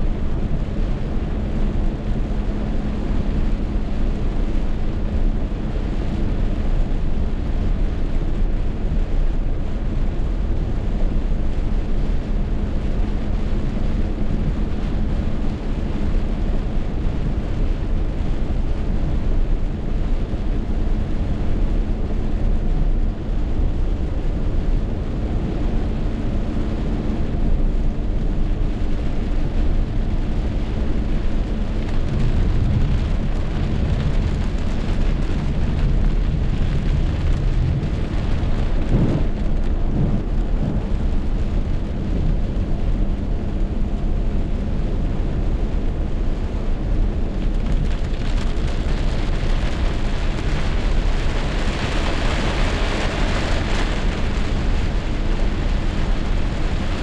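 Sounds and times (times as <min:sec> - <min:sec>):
deep low rumble: 0:00.0 - 0:57.0
heavy rain: 0:00.0 - 0:57.0
wind noise: 0:00.0 - 0:57.0.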